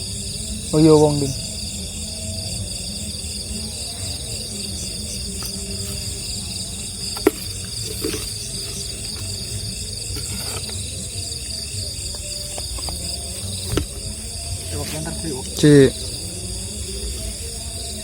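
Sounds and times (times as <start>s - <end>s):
crickets and insects trilling: 0.0s - 18.0s.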